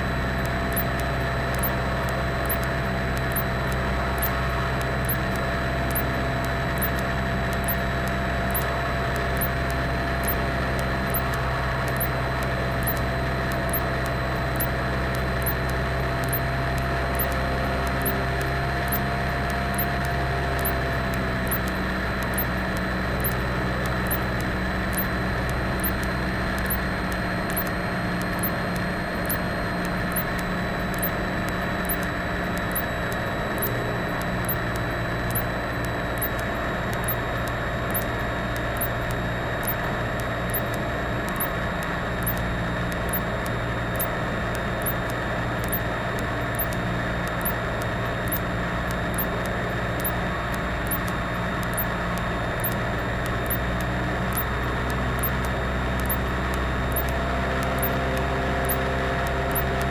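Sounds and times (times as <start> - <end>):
faint high tick: 0.0 - 59.9.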